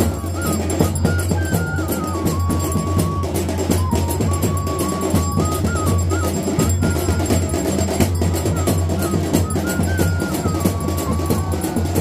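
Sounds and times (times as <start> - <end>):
fast dense drumming: 0.0 - 12.0
high melody line: 0.0 - 12.0.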